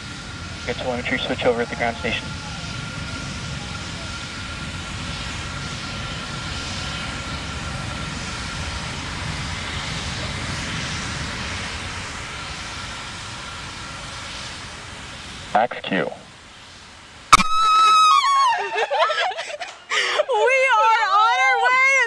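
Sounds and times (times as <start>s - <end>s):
rocket engine rumble: 0.0s - 18.2s.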